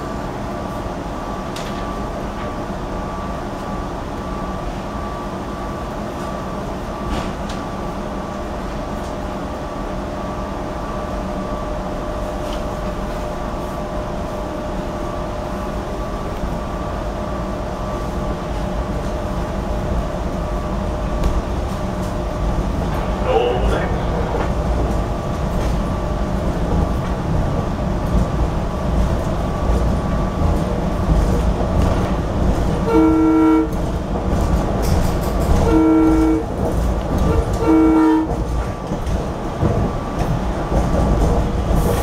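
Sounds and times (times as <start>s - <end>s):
train electrical hum and whine: 0.0s - 42.0s.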